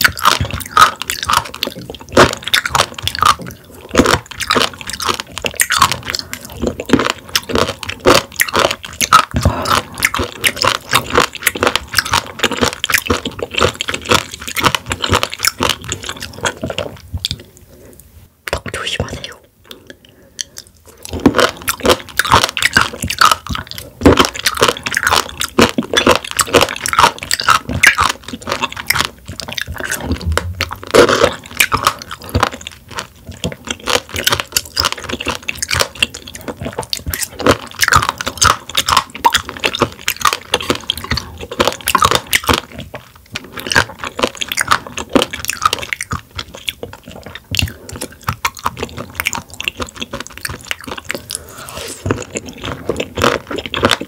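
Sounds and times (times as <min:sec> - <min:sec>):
wet crunchy chewing: 0:00.0 - 0:54.0.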